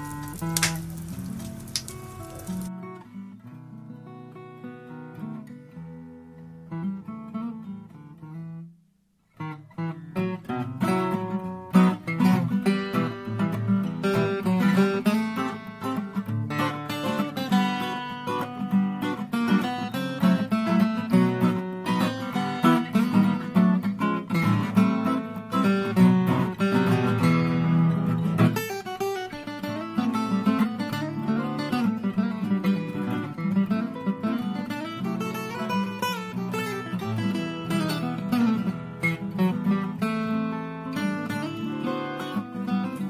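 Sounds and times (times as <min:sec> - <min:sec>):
acoustic guitar strumming: 0:00.0 - 0:03.8, 0:09.4 - 0:43.0.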